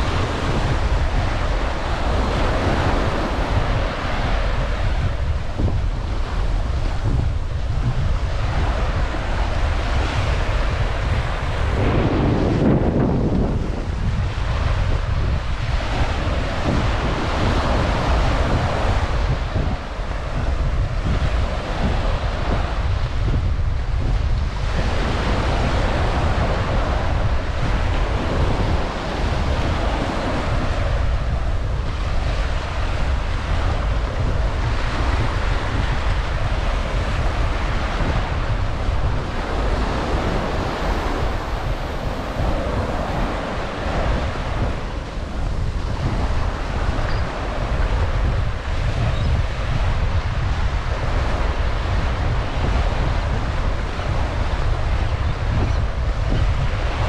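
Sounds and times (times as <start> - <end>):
ocean waves breaking on beach: 0.0 - 57.0
wind rumble on microphone: 0.0 - 57.0.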